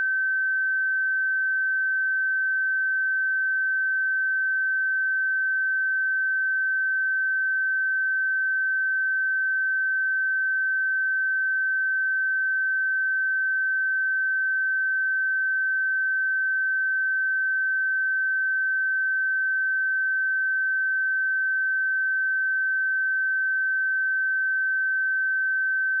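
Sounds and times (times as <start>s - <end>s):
high sine-wave test tone: 0.0s - 26.0s.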